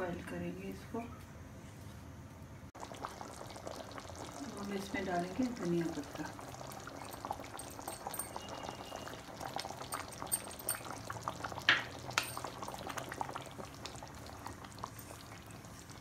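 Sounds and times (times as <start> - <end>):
gravy bubbling in a pan: 2.8 - 16.0.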